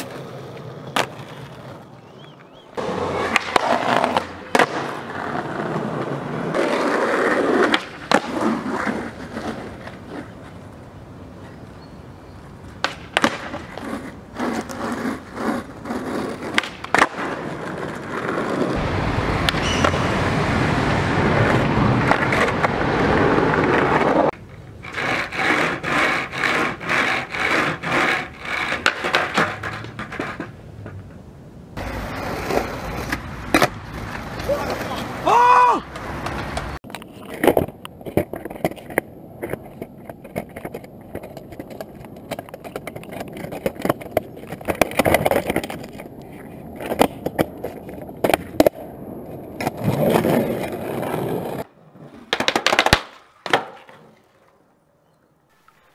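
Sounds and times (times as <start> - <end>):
skateboard pops and clacks: 0.0 - 10.6, 12.6 - 18.8, 21.4 - 31.2, 31.9 - 35.2, 35.9 - 54.7
skateboard wheels rolling: 0.0 - 55.9.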